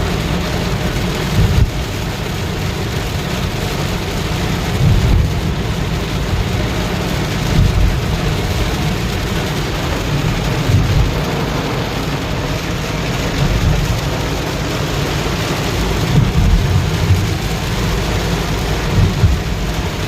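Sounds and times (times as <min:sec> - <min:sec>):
deep rumble: 0:00.0 - 0:20.0
heavy rain: 0:00.0 - 0:20.0.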